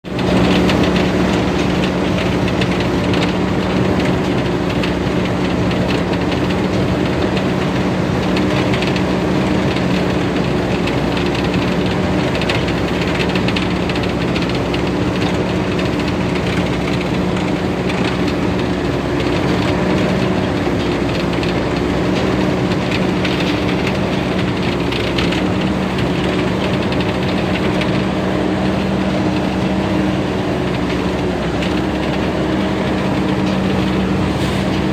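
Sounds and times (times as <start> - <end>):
diesel engine running: 0.0 - 34.9
harvesting machinery clattering: 0.1 - 34.9.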